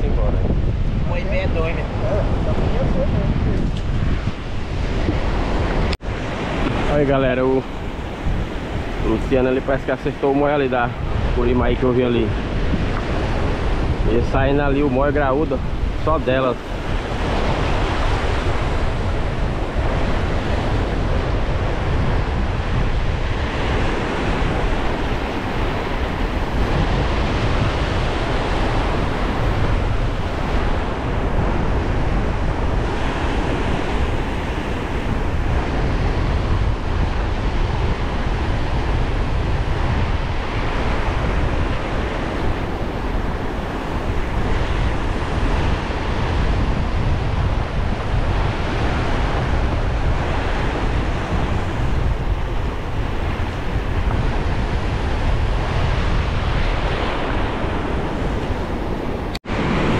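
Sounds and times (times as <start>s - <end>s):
wind buffeting microphone: 0.0s - 59.9s
small waves breaking on sand: 0.7s - 59.9s.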